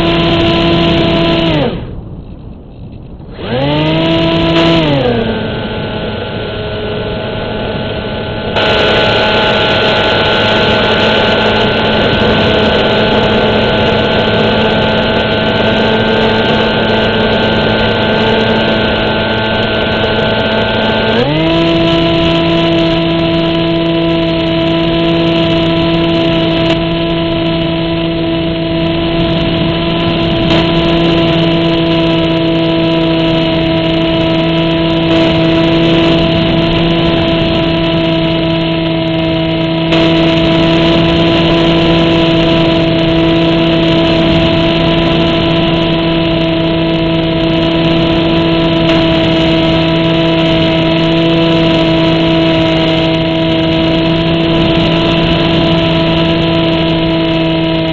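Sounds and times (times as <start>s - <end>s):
electric motor and propeller: 0.0s - 57.9s.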